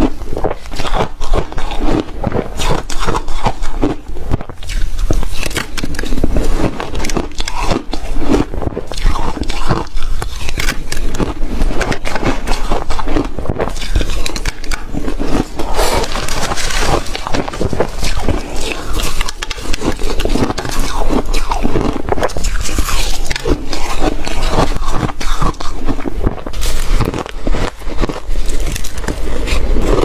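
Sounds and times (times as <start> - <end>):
chewing crunchy ice: 0.0 - 30.0.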